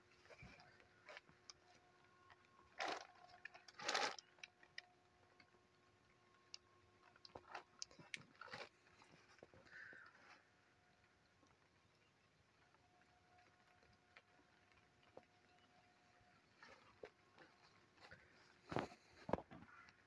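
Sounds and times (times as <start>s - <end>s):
handling clicks and ticks: 0.1s - 20.0s.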